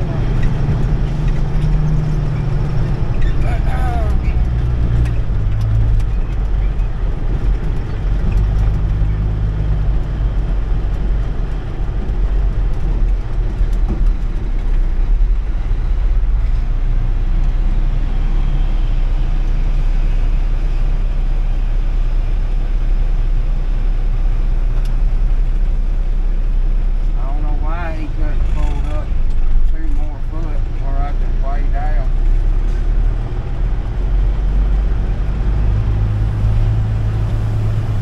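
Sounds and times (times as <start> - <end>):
truck diesel engine drone: 0.0 - 38.0.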